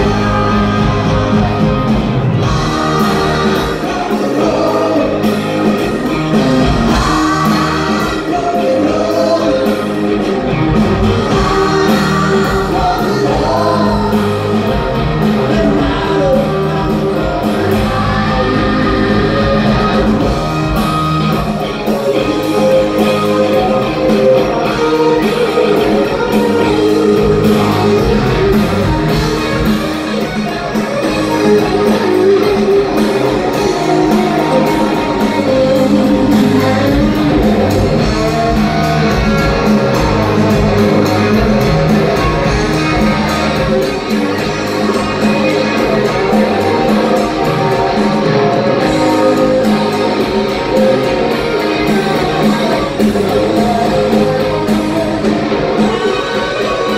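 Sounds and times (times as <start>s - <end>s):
electric guitars: 0.0s - 56.9s
live rock band: 0.0s - 56.9s
steady drum beat: 0.0s - 56.9s.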